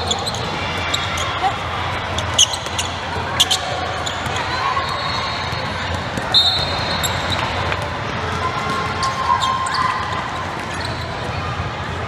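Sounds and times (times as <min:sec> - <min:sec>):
sneakers squeaking: 0:00.0 - 0:11.6.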